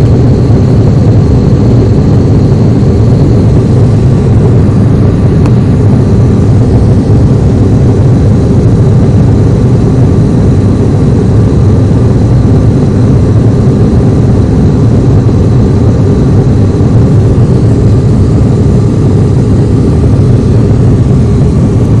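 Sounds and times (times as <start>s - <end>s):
aircraft engine drone: 0.0s - 22.0s
faint steady whine: 0.0s - 22.0s.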